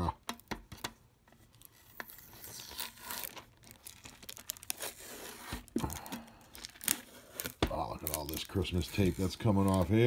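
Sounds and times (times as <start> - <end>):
plastic wrap crinkling: 1.4 - 10.0.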